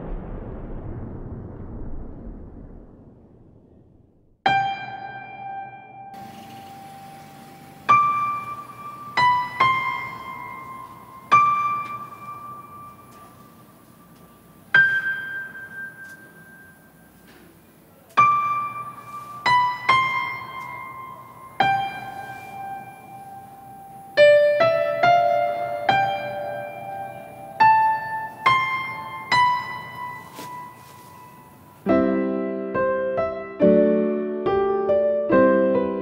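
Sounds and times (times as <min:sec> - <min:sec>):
slow piano music: 0:04.5 - 0:36.0.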